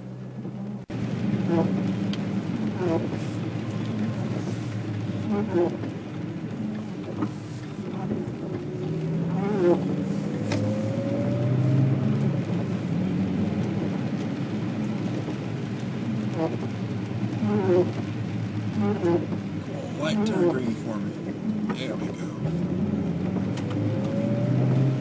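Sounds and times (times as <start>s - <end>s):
car engine hum: 0.0s - 25.0s
tyre noise on wet road: 0.0s - 25.0s.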